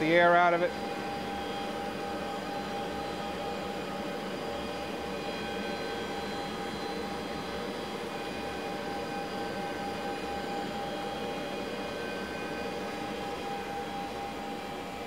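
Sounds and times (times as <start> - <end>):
grinder whine tones: 0.0 - 15.0.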